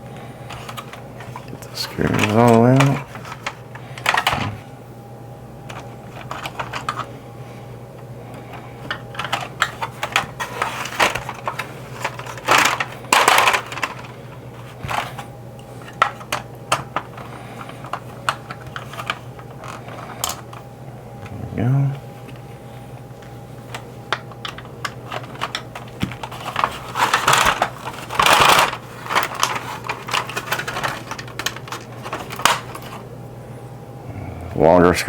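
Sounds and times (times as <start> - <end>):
faint hum: 0.0 - 35.0.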